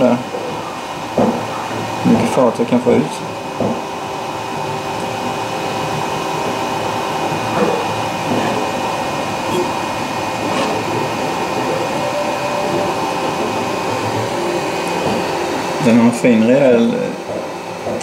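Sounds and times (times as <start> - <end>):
fans and motors whirring: 0.0 - 18.0
motor tones: 3.2 - 18.0.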